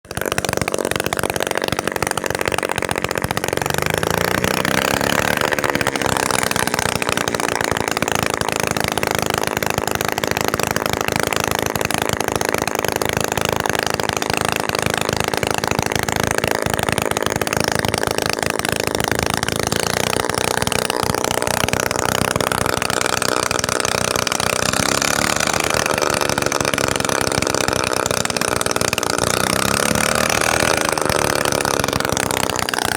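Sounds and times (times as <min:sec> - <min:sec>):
buzzy two-stroke engine running: 0:00.0 - 0:32.9.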